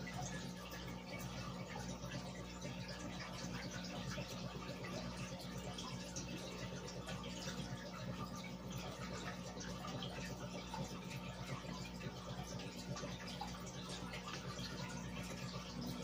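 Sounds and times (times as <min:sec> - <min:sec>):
air bubbles bubbling in water: 0:00.0 - 0:16.0
steady low hum: 0:00.0 - 0:16.0.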